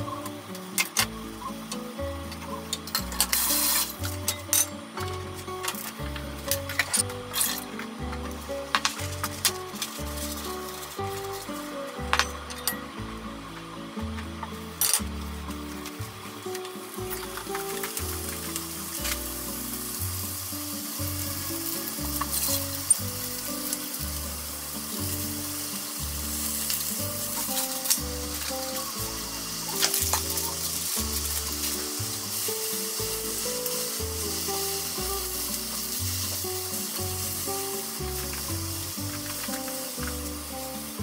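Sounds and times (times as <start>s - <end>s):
eggplant slices sizzling in a frying pan: 0.0s - 41.0s.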